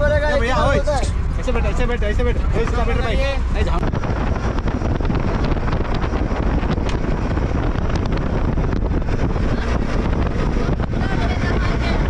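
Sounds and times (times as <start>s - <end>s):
motorboat running: 0.0s - 12.0s
water: 0.0s - 12.0s
wind buffeting microphone: 0.0s - 12.0s.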